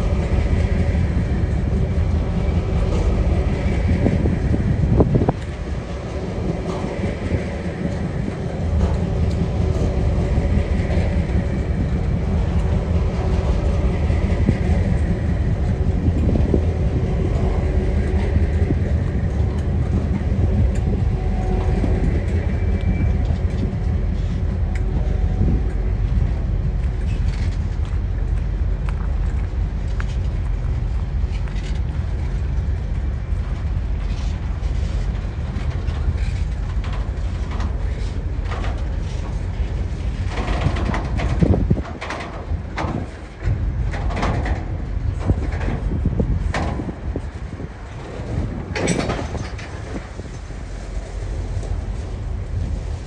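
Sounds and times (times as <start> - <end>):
freight train wheels rumbling on rail: 0.0 - 53.0.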